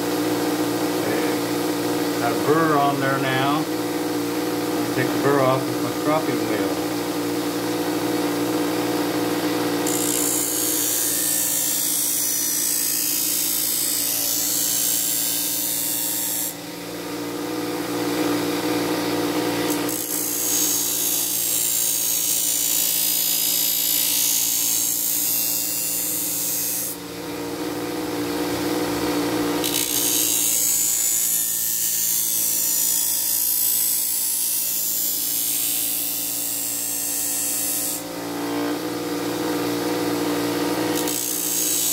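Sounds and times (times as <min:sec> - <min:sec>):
bench grinder motor hum: 0:00.0 - 0:41.9.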